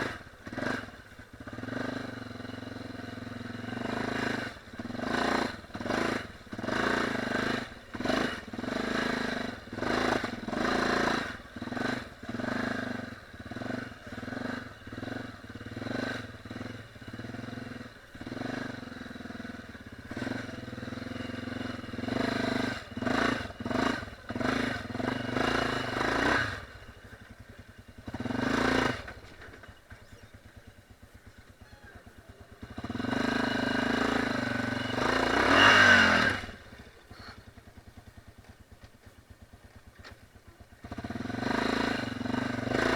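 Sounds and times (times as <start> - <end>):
dirt bike engine revving: 0.0 - 38.2, 40.8 - 42.9.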